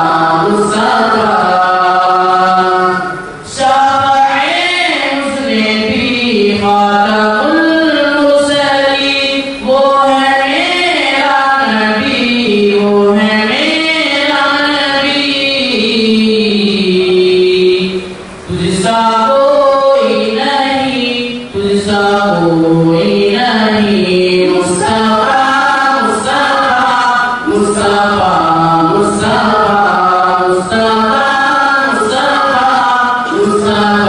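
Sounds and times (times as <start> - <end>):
boys singing unaccompanied: 0.0 - 34.0.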